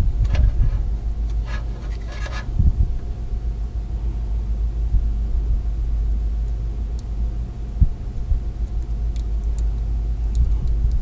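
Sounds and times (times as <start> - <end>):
faint steady hum: 0.0 - 11.0
low background rumble: 0.0 - 11.0.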